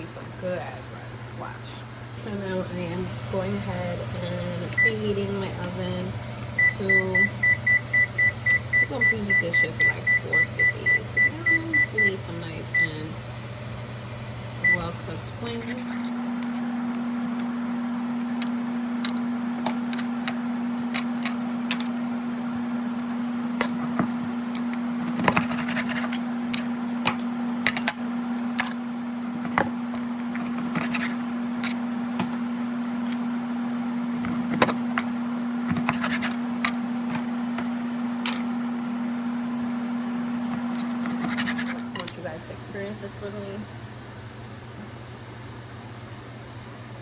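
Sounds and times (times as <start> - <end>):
kitchen appliance electrical hum: 0.0 - 47.0.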